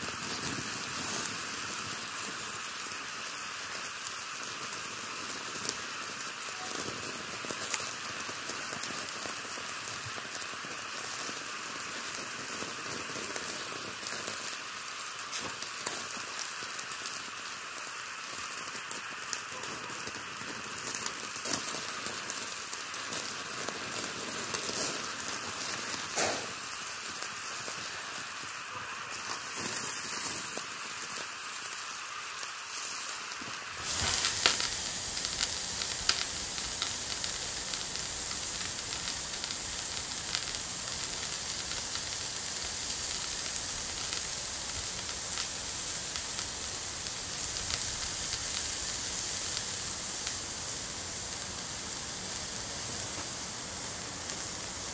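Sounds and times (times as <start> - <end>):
crackly hiss: 0.0 - 54.9.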